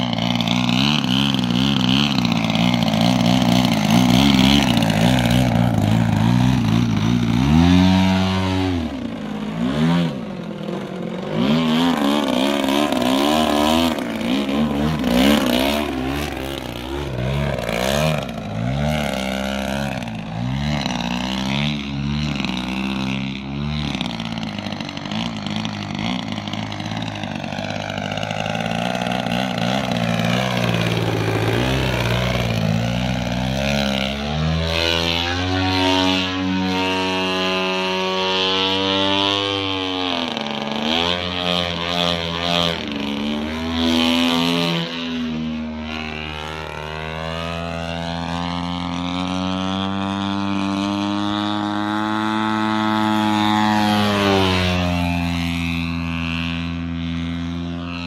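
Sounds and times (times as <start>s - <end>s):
model plane petrol engine: 0.0s - 58.0s.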